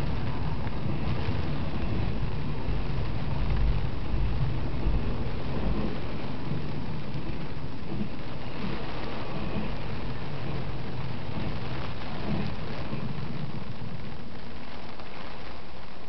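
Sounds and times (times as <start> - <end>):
train wheels rumbling on rail: 0.0 - 14.5
rain hissing: 0.0 - 16.0.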